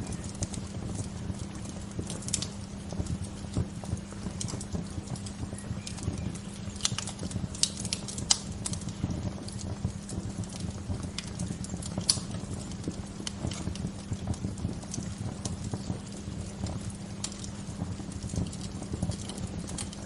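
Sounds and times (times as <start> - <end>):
low steady rumble: 0.0 - 20.0
wood fire crackling and popping: 0.0 - 20.0.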